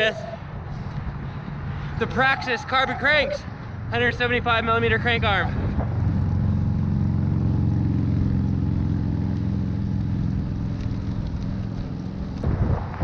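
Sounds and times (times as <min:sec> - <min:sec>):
bike tyres rumbling on pavement: 0:00.0 - 0:13.0.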